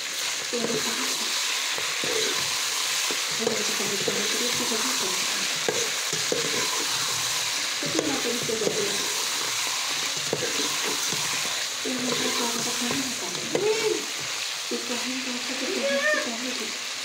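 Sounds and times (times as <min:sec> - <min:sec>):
chicken sizzling in hot oil: 0:00.0 - 0:17.0
spoon scraping metal pot: 0:00.6 - 0:14.5.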